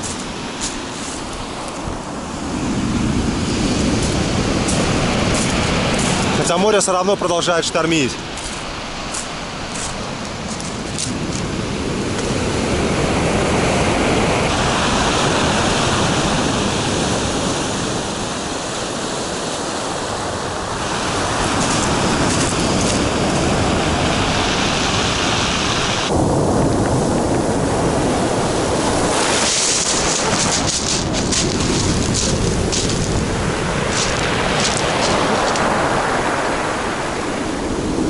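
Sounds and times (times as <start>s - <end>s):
waves breaking on pebble beach: 0.0s - 38.0s.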